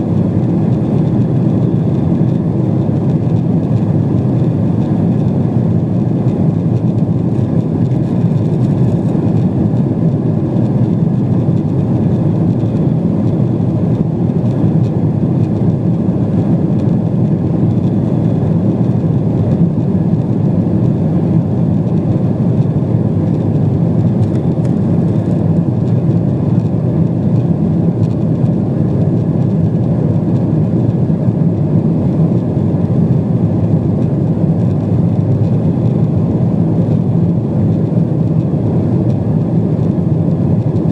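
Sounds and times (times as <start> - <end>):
airflow over fuselage: 0.0 - 40.9
jet engines droning: 0.0 - 40.9.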